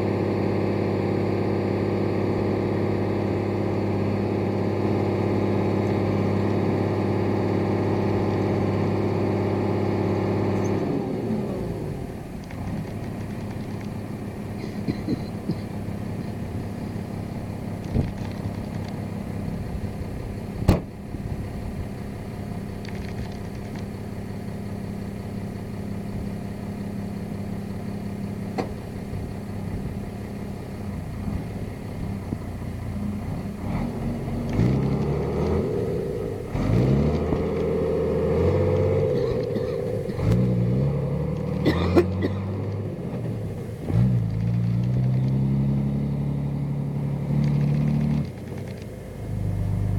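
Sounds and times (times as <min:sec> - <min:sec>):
diesel engine running and revving: 0:00.0 - 0:49.9.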